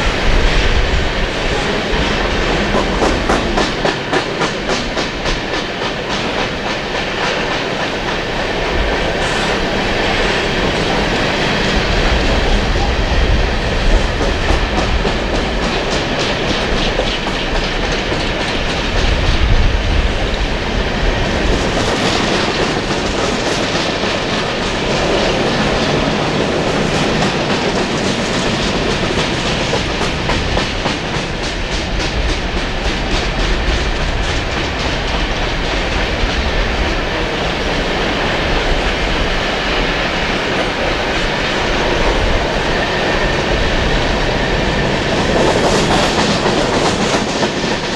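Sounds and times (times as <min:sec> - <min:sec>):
train rumble: 0:00.0 - 0:47.9
train wheels clicking over rail joints: 0:00.0 - 0:47.9.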